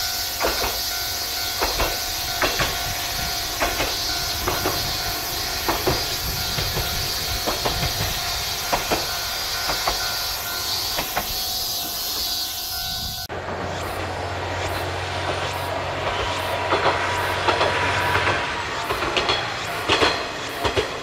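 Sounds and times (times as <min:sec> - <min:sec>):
diesel railcar running past: 0:00.0 - 0:21.0
wheels clicking over rail joints: 0:00.0 - 0:21.0.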